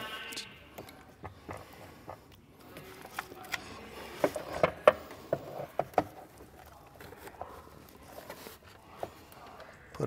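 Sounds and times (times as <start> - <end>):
faint handling noise: 0.7 - 10.0.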